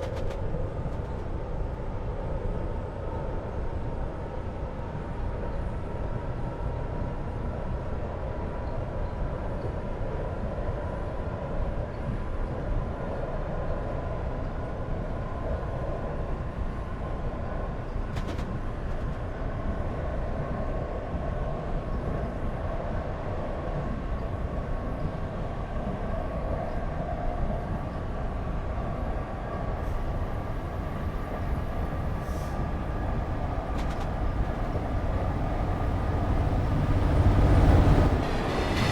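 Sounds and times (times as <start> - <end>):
train rumble: 0.0 - 38.9.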